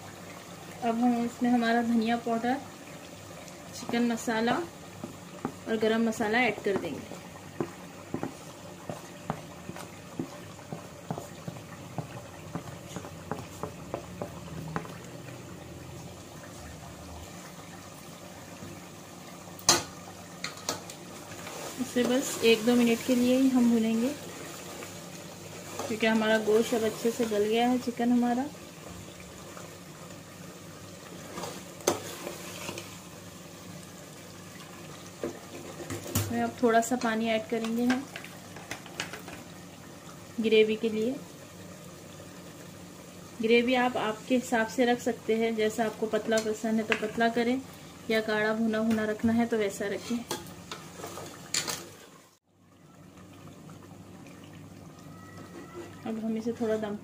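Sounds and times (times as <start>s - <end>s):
thick gravy bubbling in a pot: 0.0s - 57.0s.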